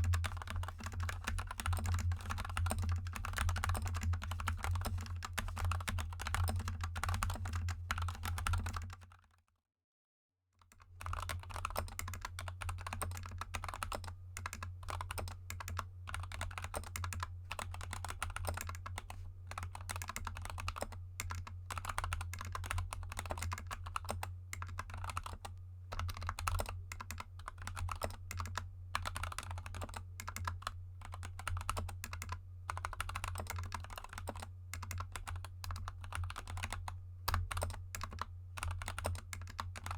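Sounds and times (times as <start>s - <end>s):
mechanical keyboard typing: 0.0s - 9.4s, 10.7s - 39.9s.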